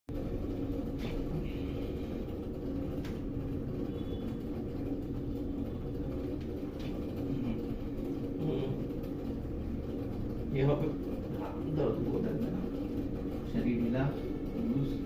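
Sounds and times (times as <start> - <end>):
low rumble and hum: 0.1 - 15.0.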